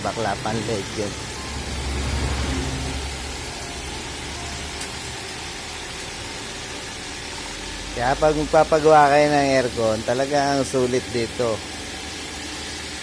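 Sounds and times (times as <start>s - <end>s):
car engine idling: 0.0s - 13.0s
steady hiss: 0.0s - 13.0s.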